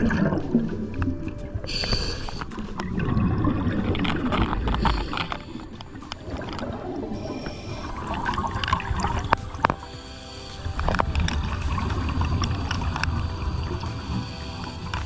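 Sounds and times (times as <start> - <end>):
water gurgling and bubbling: 0.0 - 15.0.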